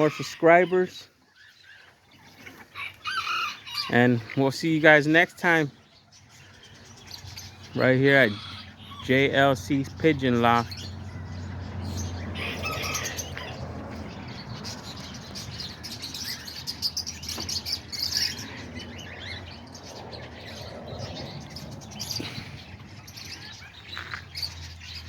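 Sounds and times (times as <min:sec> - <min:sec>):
parrots chirping and chattering: 0:00.0 - 0:25.0.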